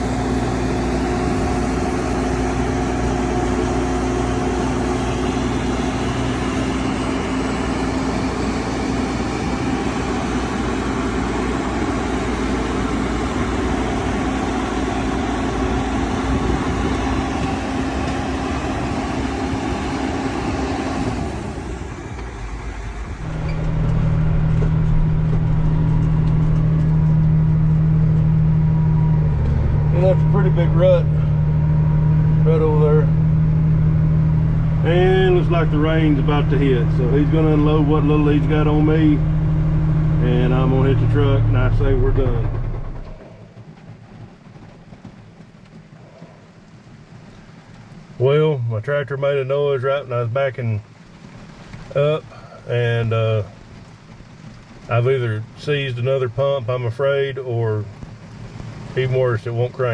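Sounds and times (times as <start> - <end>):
diesel engine running: 0.0 - 48.2.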